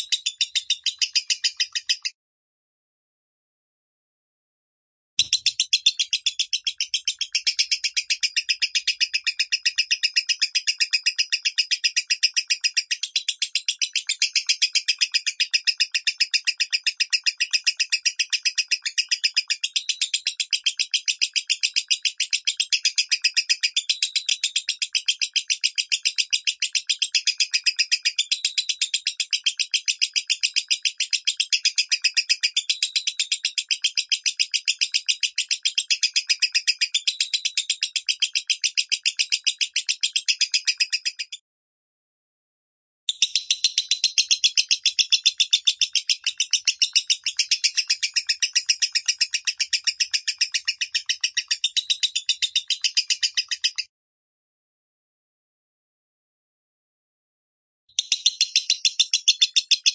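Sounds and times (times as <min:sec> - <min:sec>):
lovebird chirping rapidly: 0:00.0 - 0:02.1, 0:05.2 - 0:41.4, 0:43.1 - 0:53.9, 0:58.0 - 0:59.9.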